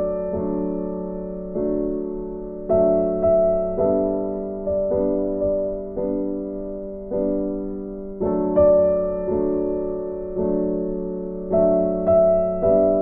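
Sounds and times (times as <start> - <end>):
electric piano chords: 0.0 - 13.0.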